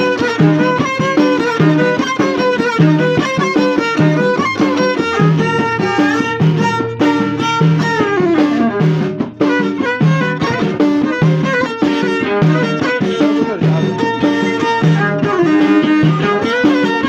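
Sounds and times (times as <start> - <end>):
hand drum beat: 0.0 - 17.0
violin melody: 0.0 - 17.0.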